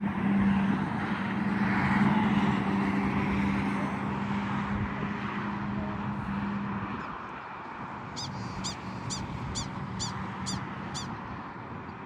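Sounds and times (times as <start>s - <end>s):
motor vehicle humming: 0.0s - 12.0s
tyre and road noise: 0.0s - 12.0s.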